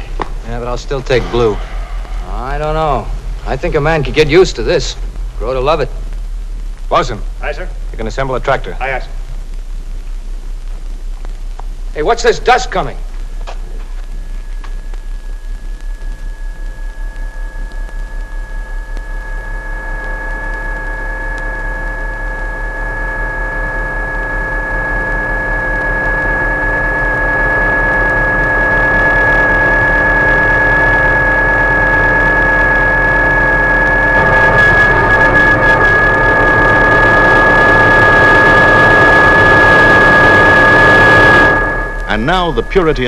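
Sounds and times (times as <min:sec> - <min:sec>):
electronic sci-fi vehicle hum: 0:00.0 - 0:12.1, 0:12.8 - 0:43.0
low pulsing throb: 0:00.0 - 0:43.0.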